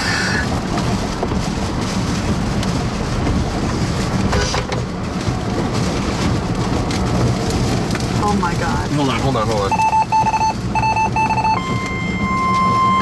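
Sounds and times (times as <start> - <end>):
rain on vehicle: 0.0 - 13.0
tyres on wet road: 0.0 - 13.0.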